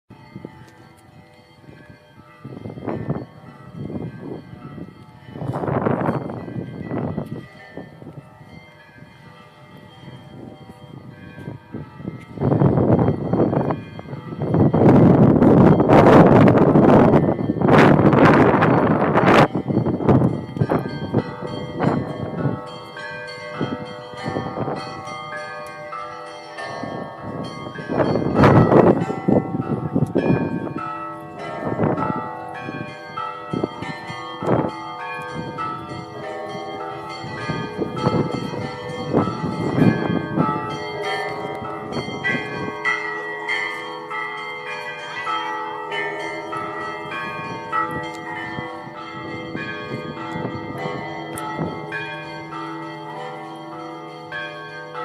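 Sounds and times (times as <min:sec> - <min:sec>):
church bells ringing: 0:00.1 - 0:55.0
heavy low bell: 0:00.1 - 0:55.0.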